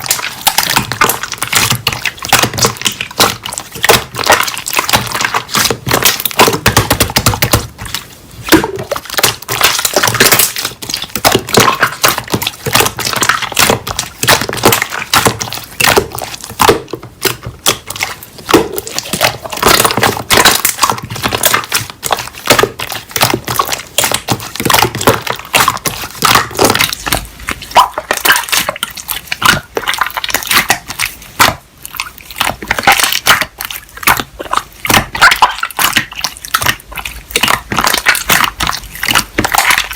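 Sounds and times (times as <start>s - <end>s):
slime squished by hand: 0.0s - 39.9s.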